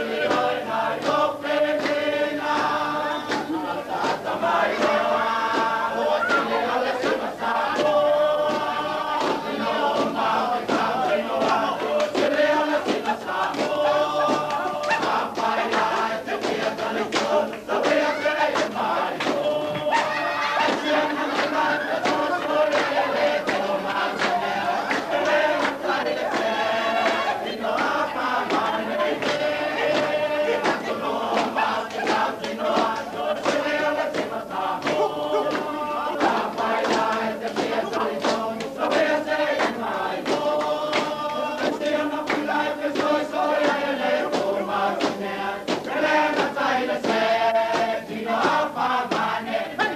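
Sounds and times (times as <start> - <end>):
group chanting together: 0.0 - 49.9.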